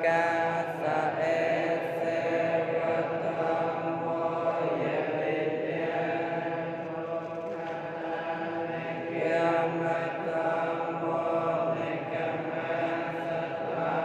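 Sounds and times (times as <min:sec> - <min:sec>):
droning chant-like voices: 0:00.0 - 0:14.0.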